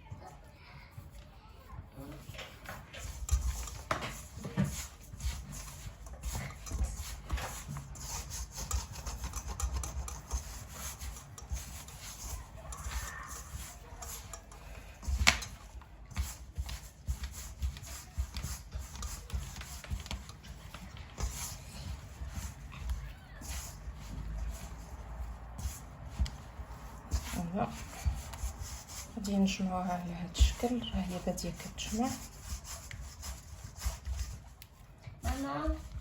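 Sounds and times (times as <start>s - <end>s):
dough rubbing and scraping: 0.0s - 36.0s.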